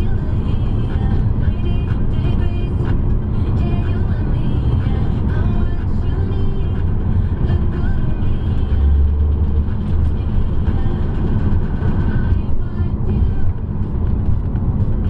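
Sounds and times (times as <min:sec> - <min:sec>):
car engine and road drone: 0:00.0 - 0:15.0
music playing: 0:00.0 - 0:15.0.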